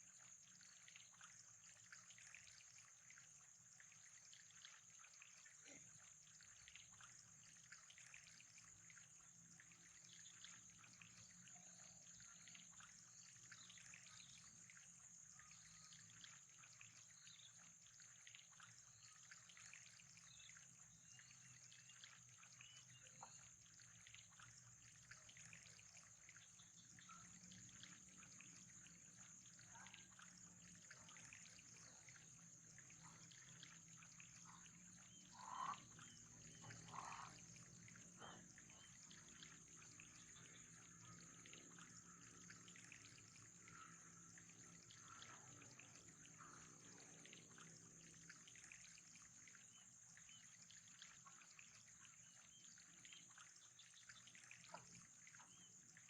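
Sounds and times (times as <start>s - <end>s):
faint trickling water: 0.0s - 56.0s.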